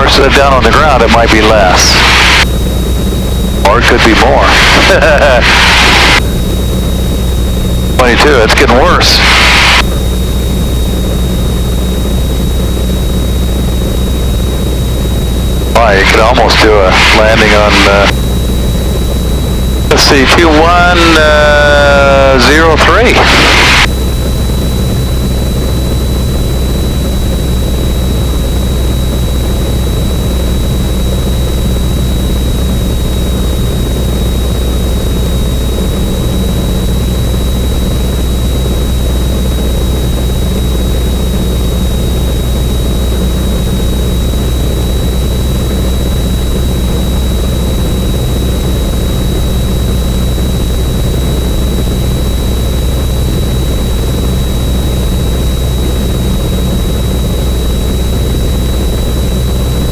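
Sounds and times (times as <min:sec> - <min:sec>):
light aircraft engine droning: 0:00.0 - 0:59.9
thin high whine: 0:00.0 - 0:59.9.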